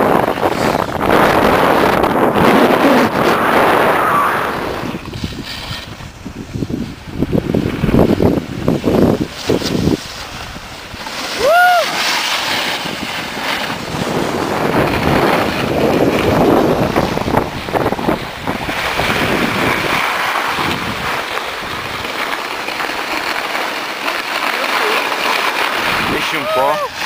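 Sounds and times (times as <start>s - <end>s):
wind on microphone: 0.0s - 22.2s, 25.6s - 27.0s
skis scraping over snow: 0.0s - 27.0s.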